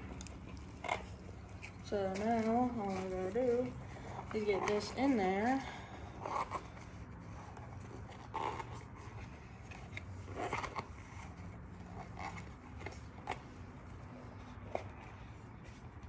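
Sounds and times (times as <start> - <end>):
rubber rubbing and scraping: 0.0 - 16.0.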